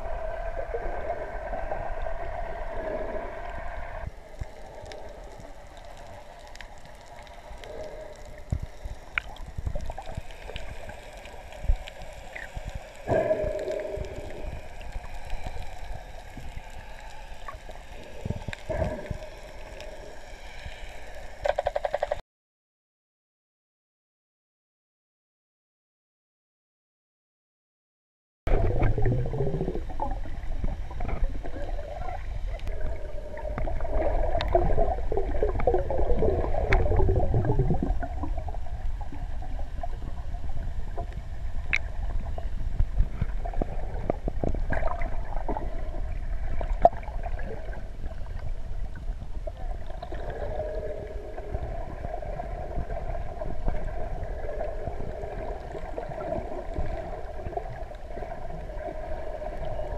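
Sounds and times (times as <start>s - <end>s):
underwater rumble and gurgling: 0.0s - 22.2s, 28.5s - 59.9s.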